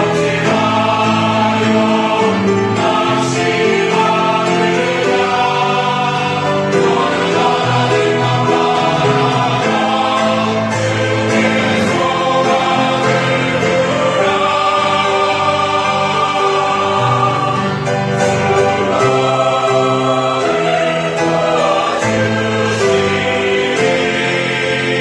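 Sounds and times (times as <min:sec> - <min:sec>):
church choir singing: 0:00.0 - 0:25.0.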